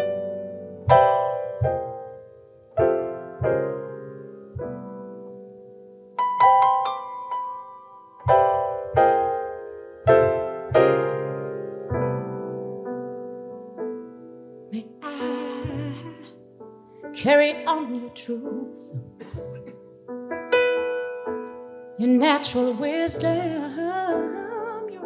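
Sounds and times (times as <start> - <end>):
solo piano chords: 0.0 - 25.0.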